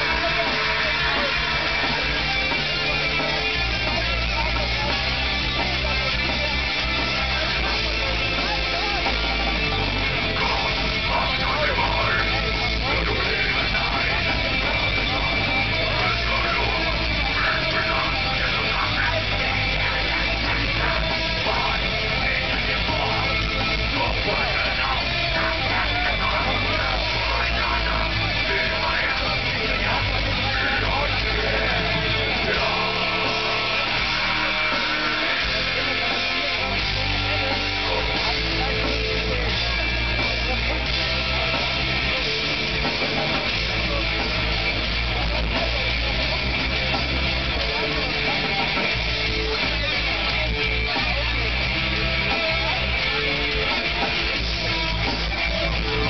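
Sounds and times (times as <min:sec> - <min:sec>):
bass guitar: 0:00.0 - 0:56.0
distorted electric guitars: 0:00.0 - 0:56.0
drums: 0:00.0 - 0:56.0.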